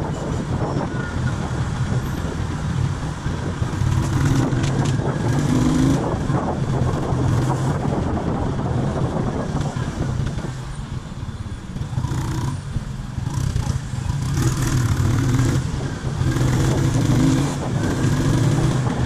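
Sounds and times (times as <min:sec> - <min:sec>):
motorcycle engine running: 0:01.0 - 0:19.0.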